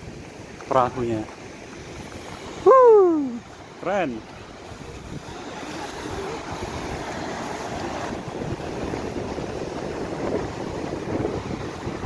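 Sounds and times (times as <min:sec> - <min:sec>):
surf breaking on rocks: 0:00.0 - 0:12.0
wind rumbling on microphone: 0:00.0 - 0:12.0.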